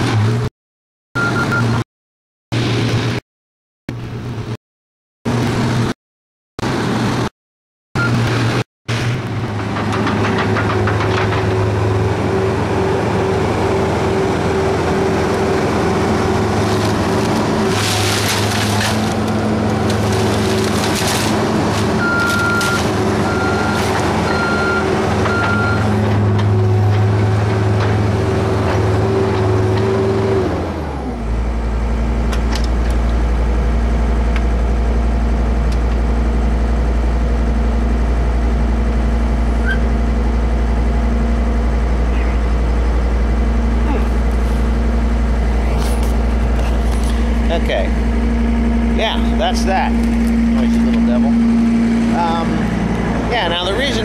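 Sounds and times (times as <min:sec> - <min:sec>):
diesel engine revving: 0:08.0 - 0:54.0.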